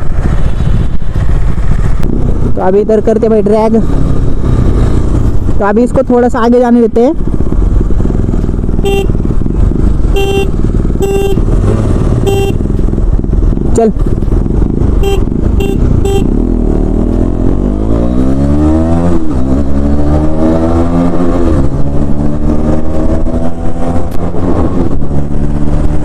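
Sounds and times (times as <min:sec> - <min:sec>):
wind on microphone: 0:00.0 - 0:03.0, 0:03.7 - 0:26.0
motorcycle engine accelerating: 0:00.0 - 0:26.0.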